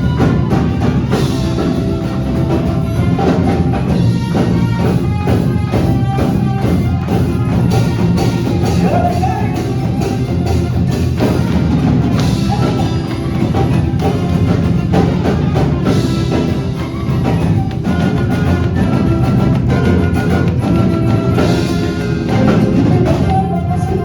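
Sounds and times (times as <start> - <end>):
drum beat: 0.0 - 24.0
pitched instruments playing: 0.0 - 24.0.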